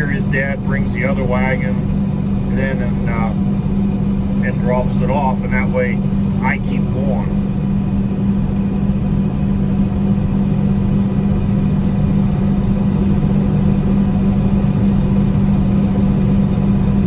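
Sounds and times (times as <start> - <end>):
combine engine drone: 0.0 - 17.0.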